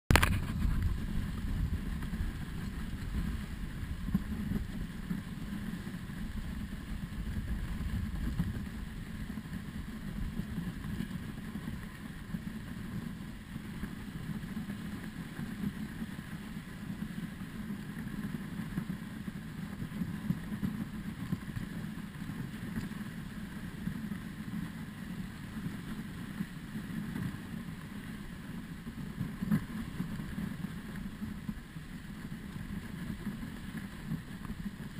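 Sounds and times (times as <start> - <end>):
sled runners grating on snow: 0.1 - 34.9.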